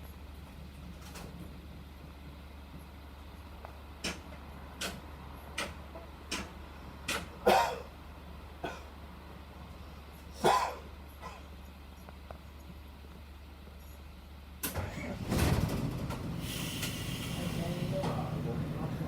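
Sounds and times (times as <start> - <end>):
bus engine hum: 0.0 - 19.0.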